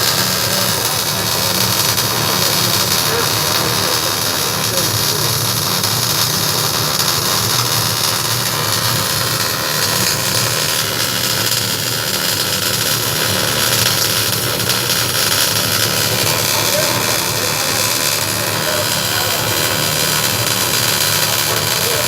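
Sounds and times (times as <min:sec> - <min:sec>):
welding arc crackling hiss: 0:00.0 - 0:22.0.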